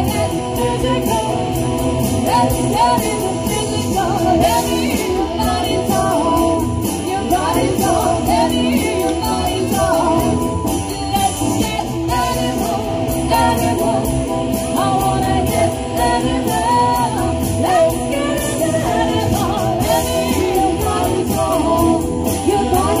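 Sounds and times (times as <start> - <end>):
bass guitar: 0.0 - 23.0
electric guitar: 0.0 - 23.0
steady drum beat: 0.0 - 23.0
women singing: 0.0 - 23.0.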